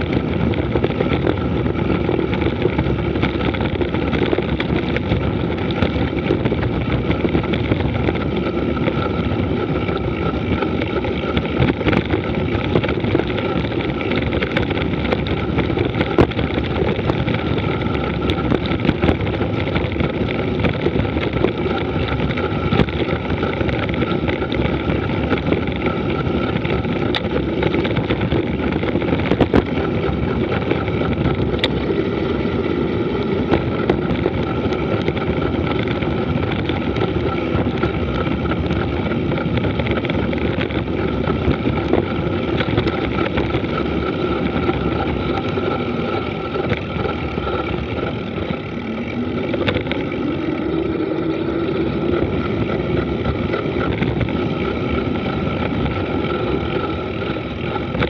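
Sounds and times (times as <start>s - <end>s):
tyres rattling on gravel: 0.0s - 58.0s
wind on microphone: 0.0s - 58.0s.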